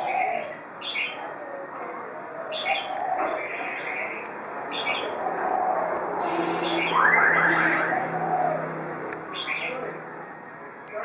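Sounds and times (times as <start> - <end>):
murmur of distant voices: 0.0 - 11.0.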